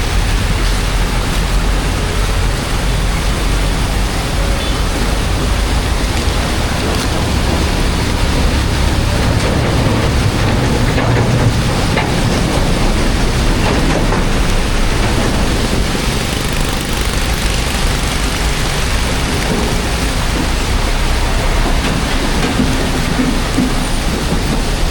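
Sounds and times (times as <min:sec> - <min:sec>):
water rushing into storm drain: 0:00.0 - 0:24.9.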